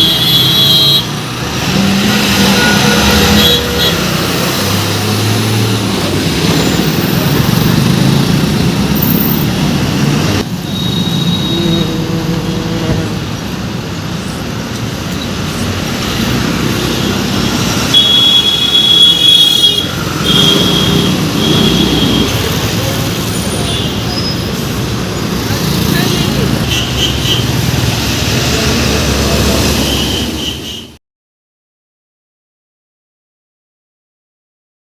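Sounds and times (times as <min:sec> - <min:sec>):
heavy road traffic: 0:00.0 - 0:31.0.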